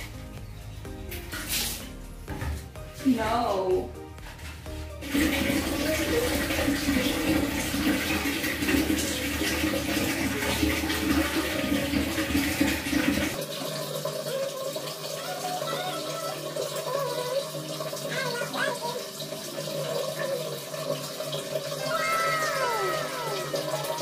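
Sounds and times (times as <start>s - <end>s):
water pouring and splashing: 1.0s - 24.0s.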